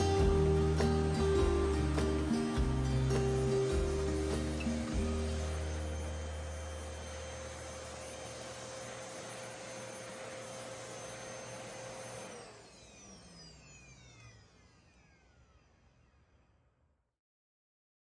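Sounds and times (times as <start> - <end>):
vacuum cleaner motor whining: 0.0 - 16.4.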